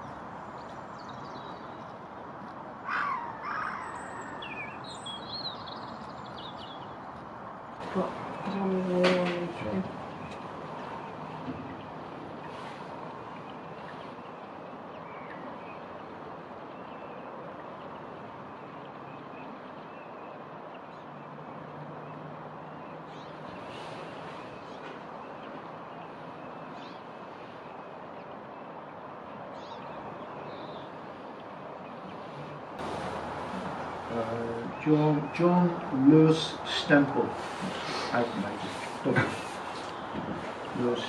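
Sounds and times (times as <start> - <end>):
outdoor background rush: 0.0 - 41.0
faint bird calls: 2.8 - 7.0, 7.8 - 41.0.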